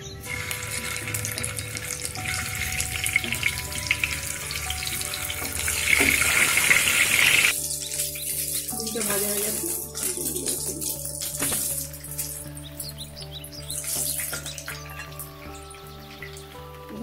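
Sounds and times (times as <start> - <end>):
eggs sizzling in hot oil: 0.2 - 16.7.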